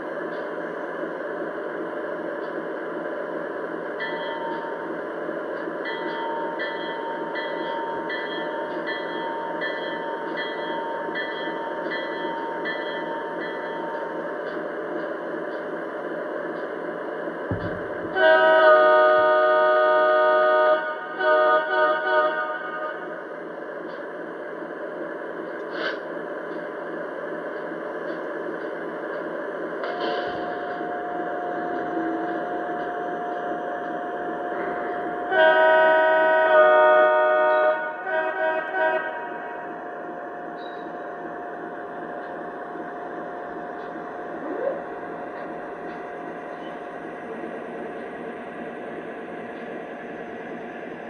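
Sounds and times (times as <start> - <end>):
diesel locomotive engine running: 0.0 - 51.0.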